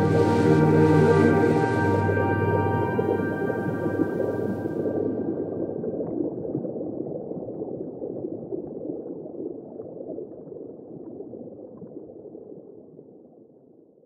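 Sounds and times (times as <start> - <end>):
underwater bubbling wash: 0.0 - 13.2.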